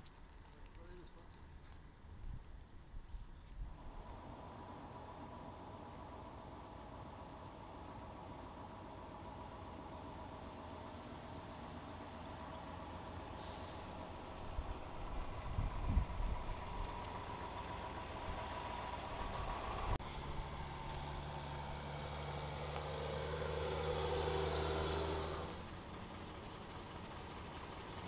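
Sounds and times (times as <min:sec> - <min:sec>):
heavy vehicle engines running: 0:03.6 - 0:28.0
diesel engine droning past: 0:03.7 - 0:28.0.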